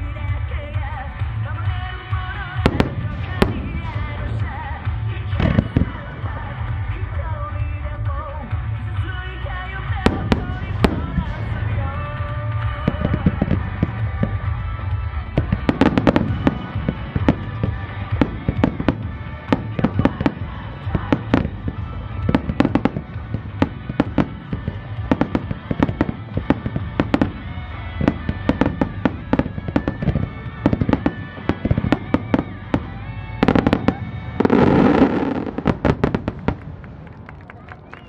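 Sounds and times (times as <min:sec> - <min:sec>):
background music: 0:00.0 - 0:38.0
fireworks bursting: 0:00.1 - 0:38.0.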